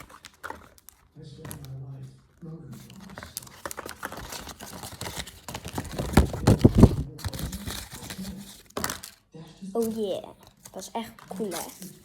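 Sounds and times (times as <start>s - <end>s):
paper packaging crinkling: 0.0s - 9.2s, 9.8s - 12.0s.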